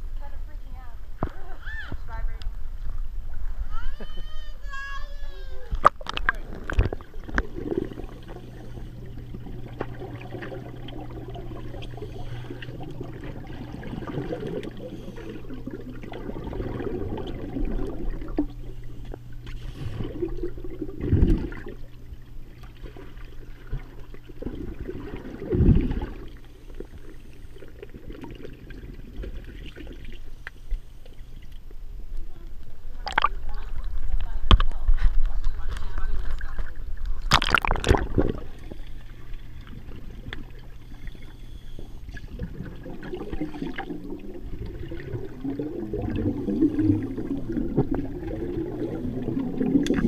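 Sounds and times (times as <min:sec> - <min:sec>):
muffled underwater water swishing: 0:00.0 - 0:50.0
steady low hum: 0:00.0 - 0:50.0
bubbling gushes: 0:05.8 - 0:30.4, 0:33.0 - 0:34.6, 0:35.6 - 0:50.0.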